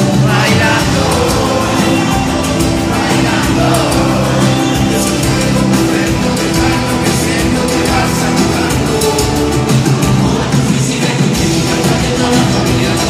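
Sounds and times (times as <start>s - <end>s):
live pop band over sound system: 0.0s - 13.0s.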